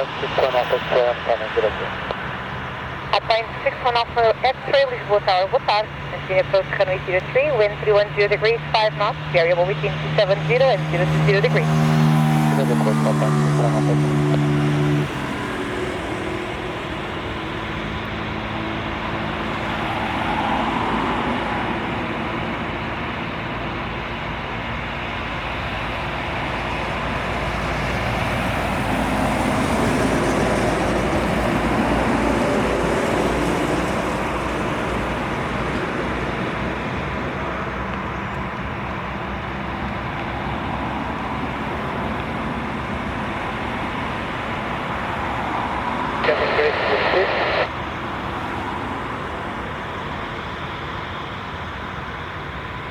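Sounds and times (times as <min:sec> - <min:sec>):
jet engines passing: 0:00.0 - 0:52.9.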